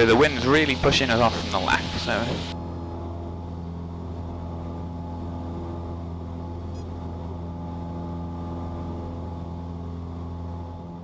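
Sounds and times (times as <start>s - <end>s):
light aircraft engine drone: 0.0s - 11.0s.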